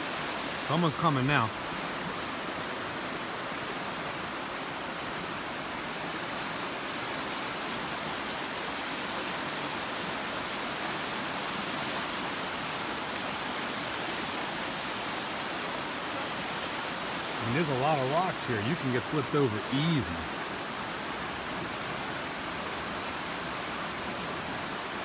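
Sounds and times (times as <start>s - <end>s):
river rushing through rapids: 0.0s - 25.0s.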